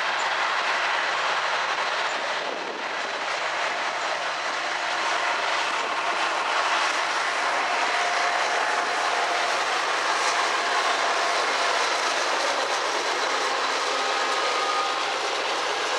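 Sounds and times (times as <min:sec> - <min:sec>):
train wheels rolling on rails: 0:00.0 - 0:15.9.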